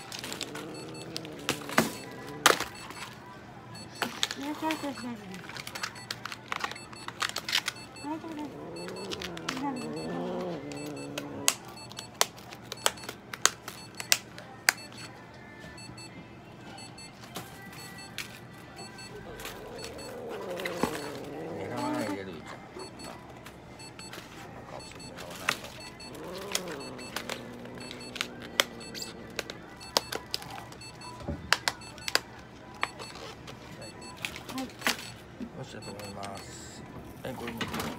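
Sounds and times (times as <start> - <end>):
background music: 0.0 - 37.9.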